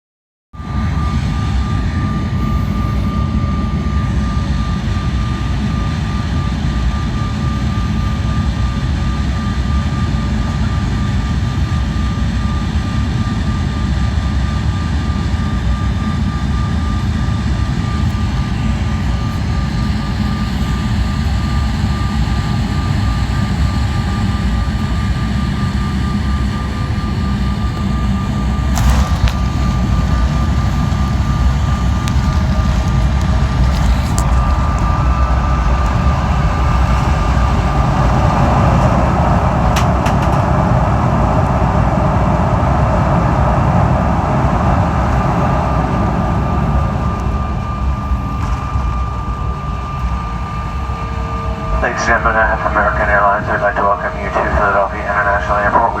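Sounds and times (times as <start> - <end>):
jet engine rumble: 0.6 - 56.0
thin steady whine: 0.6 - 56.0.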